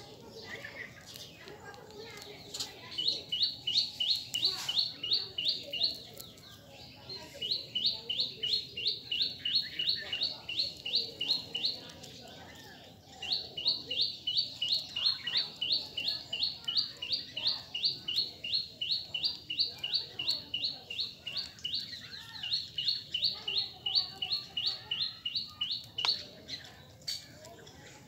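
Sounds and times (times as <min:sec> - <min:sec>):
squirrel high-pitched chirps: 0:00.4 - 0:27.0.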